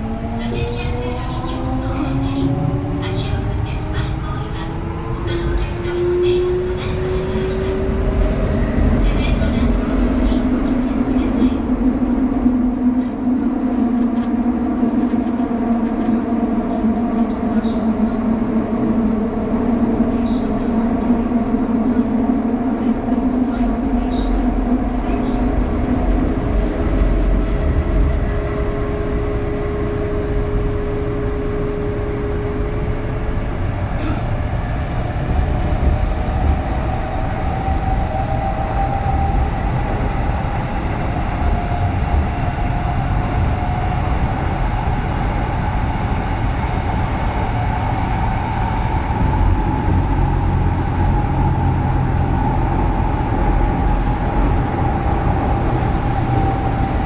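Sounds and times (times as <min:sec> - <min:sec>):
wheels rumbling on rail: 0:00.0 - 0:57.0.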